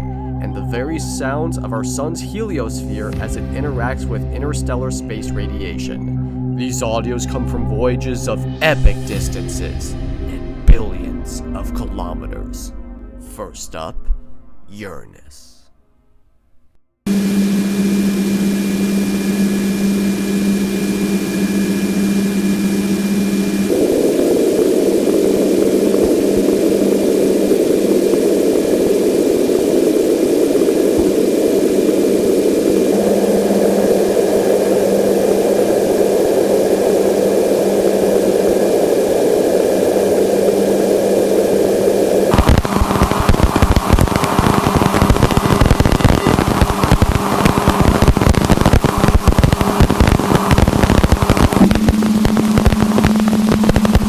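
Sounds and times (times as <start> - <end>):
dense crackling static: 2.4 - 6.6, 8.1 - 13.9, 17.1 - 54.0.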